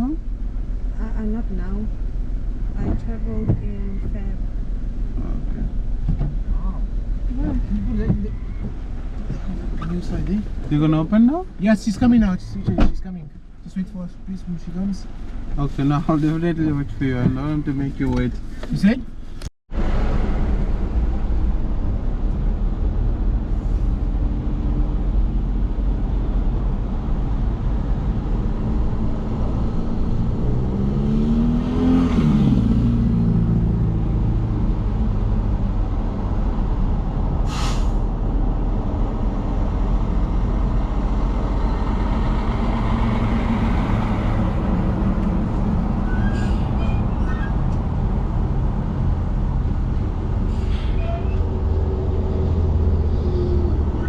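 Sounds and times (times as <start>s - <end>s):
car engine: 0.0s - 54.0s
road noise on wet road: 0.0s - 54.0s.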